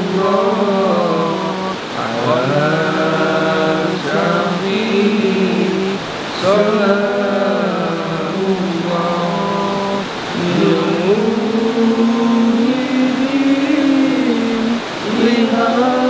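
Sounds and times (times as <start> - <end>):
men chanting in unison: 0.0 - 16.0.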